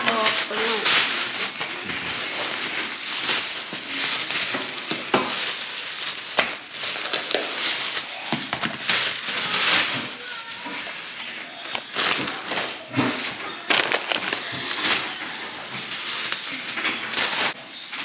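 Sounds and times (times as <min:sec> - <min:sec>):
items clicking and knocking: 0:00.0 - 0:18.0
plastic bags rustling: 0:00.0 - 0:18.0.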